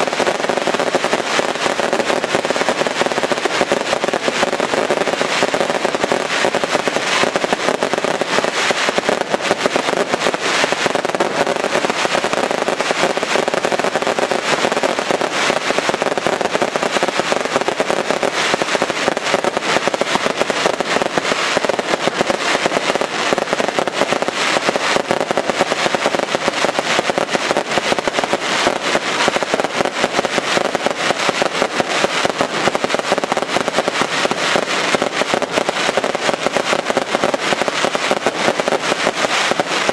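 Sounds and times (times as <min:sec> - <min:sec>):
firecracker barrage crackling: 0:00.0 - 0:39.9.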